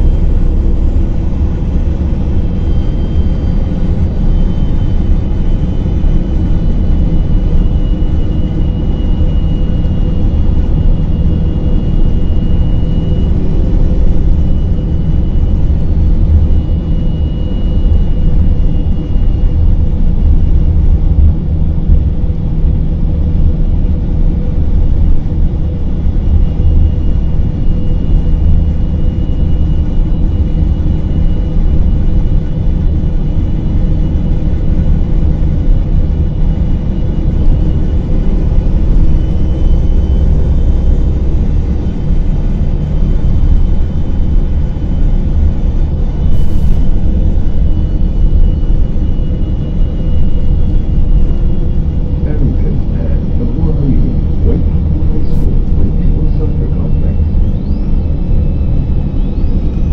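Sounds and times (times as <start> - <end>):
bus diesel engine rumble: 0.0 - 59.9
faint high whine: 0.0 - 59.9.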